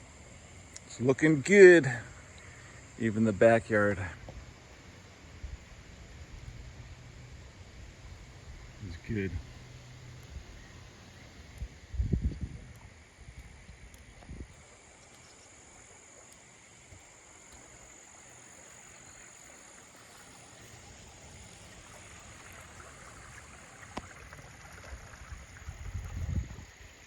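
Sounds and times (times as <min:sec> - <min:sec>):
frogs calling: 0:00.0 - 0:27.0.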